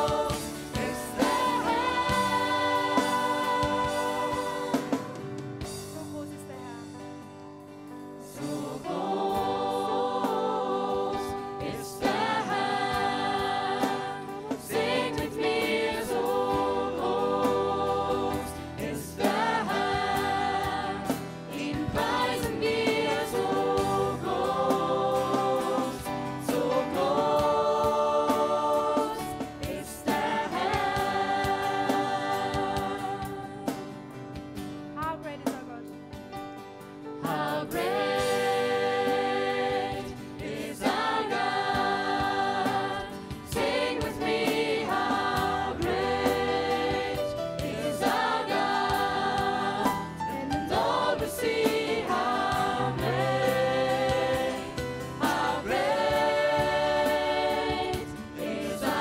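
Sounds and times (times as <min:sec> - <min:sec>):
choir singing worship song: 0:00.0 - 0:06.2, 0:07.6 - 0:34.8, 0:36.8 - 0:59.0.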